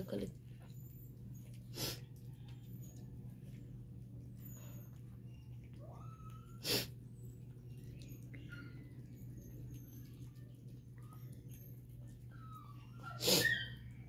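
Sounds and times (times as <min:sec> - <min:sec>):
low steady hum: 0:00.0 - 0:14.0
puppies squeaking and whining: 0:00.6 - 0:14.0.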